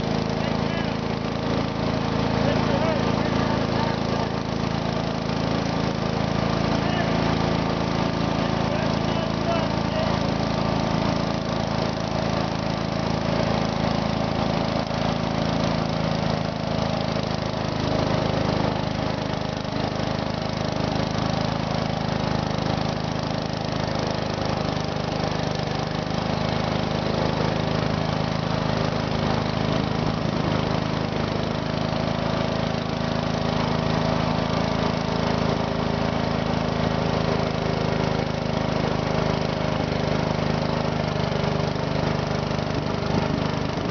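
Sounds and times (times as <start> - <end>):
small tractor engine running: 0.0 - 43.9.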